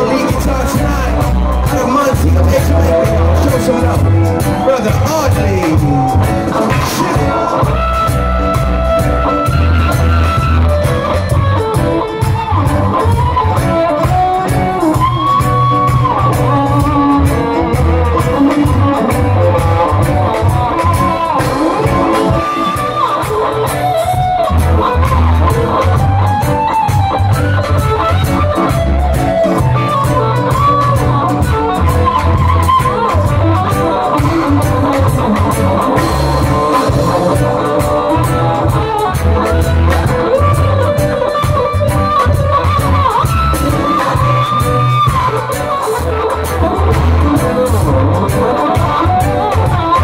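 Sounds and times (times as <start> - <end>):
heavy bass line: 0.0 - 50.0
live reggae band: 0.0 - 50.0
melodic lead line: 0.0 - 50.0.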